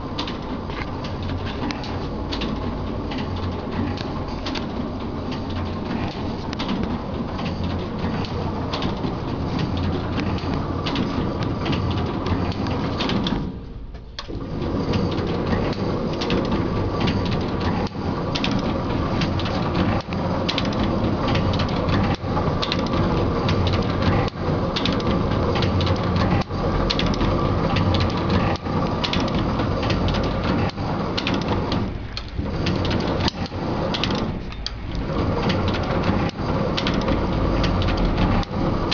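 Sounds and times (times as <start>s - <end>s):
stitching machine clattering: 0.0s - 38.9s.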